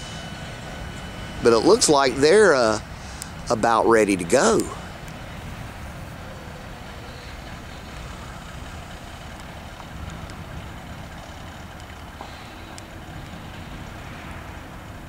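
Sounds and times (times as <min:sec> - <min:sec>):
distant diesel locomotives idling: 0:00.0 - 0:15.0.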